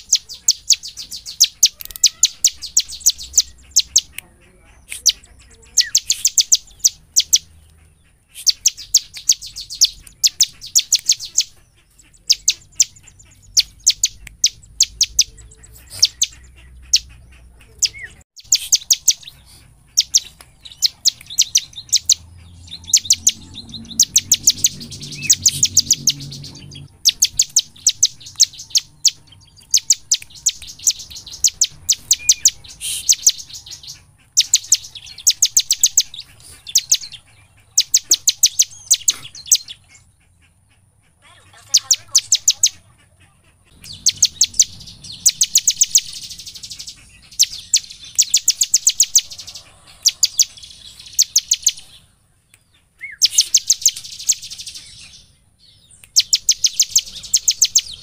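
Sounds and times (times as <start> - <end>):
bird singing rapid high notes: 0.0 - 40.1, 41.5 - 42.9, 43.6 - 52.1, 53.0 - 58.0.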